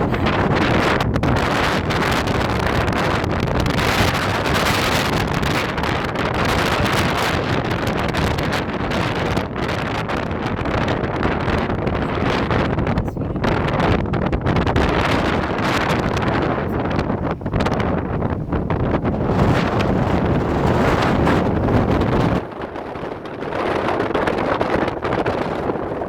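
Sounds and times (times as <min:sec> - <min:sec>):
strong wind on microphone: 0:00.0 - 0:26.0.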